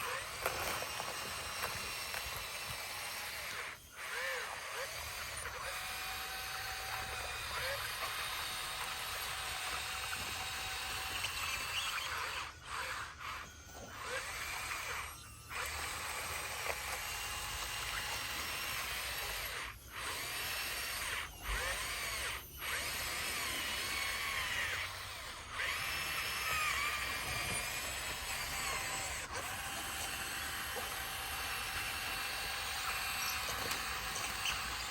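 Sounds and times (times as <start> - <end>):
high wavering whines and squeals: 0.0 - 34.9.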